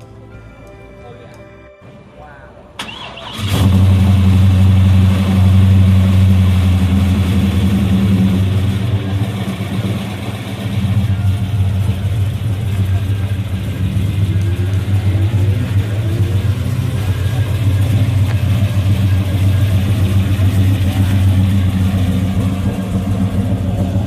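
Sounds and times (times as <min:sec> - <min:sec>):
car engine rumbling: 0:02.2 - 0:24.0.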